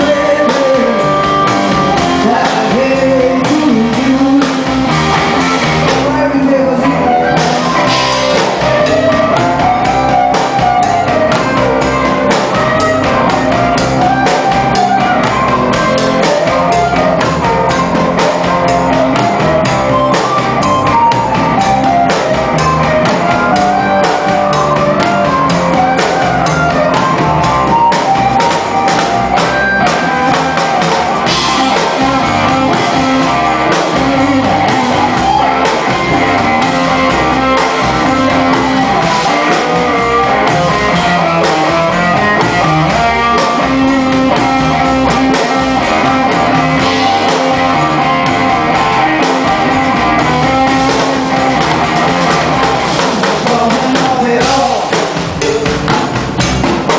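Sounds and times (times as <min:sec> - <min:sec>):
drum kit: 0:00.0 - 0:56.9
electric guitar: 0:00.0 - 0:56.9
upright double bass: 0:00.0 - 0:56.9.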